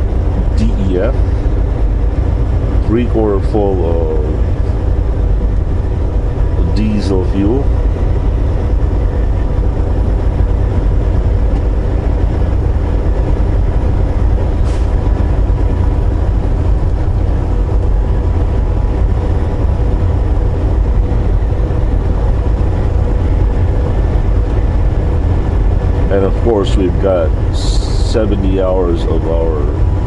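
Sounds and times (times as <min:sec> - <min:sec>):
truck engine and road noise in cab: 0:00.0 - 0:30.0.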